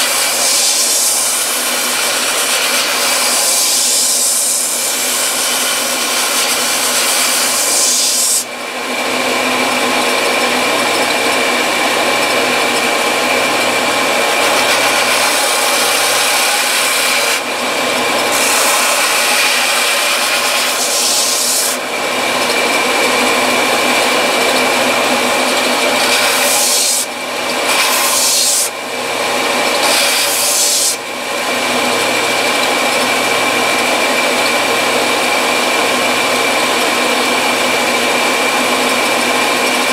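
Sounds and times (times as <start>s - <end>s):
belt sander motor hum: 0.0s - 39.9s.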